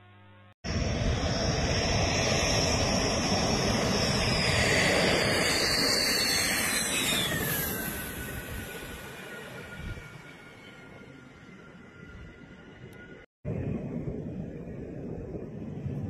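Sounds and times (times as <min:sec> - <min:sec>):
jet engines roaring with high whine: 0:00.7 - 0:16.0.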